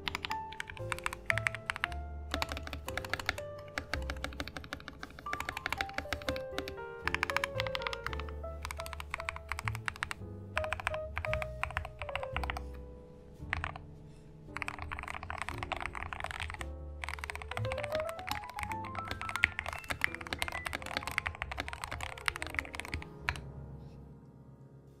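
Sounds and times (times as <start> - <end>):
mechanical keyboard typing: 0.0 - 12.8, 13.5 - 13.8, 14.6 - 23.5
background music: 0.0 - 25.0.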